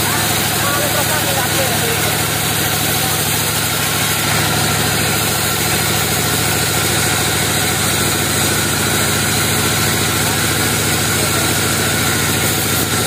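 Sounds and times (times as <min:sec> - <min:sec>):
sawmill machine drone: 0:00.0 - 0:13.0.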